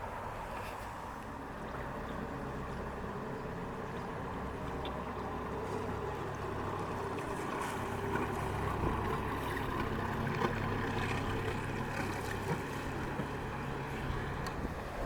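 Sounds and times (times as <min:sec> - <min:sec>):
boat engine humming: 0:00.0 - 0:15.0
water noise: 0:00.0 - 0:15.0
wind: 0:00.0 - 0:15.0.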